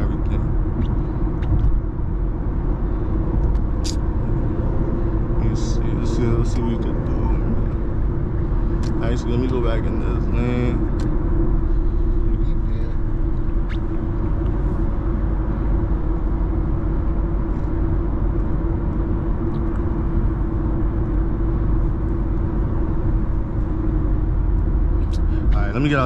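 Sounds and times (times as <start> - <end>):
car driving at highway speed: 0.0 - 26.0.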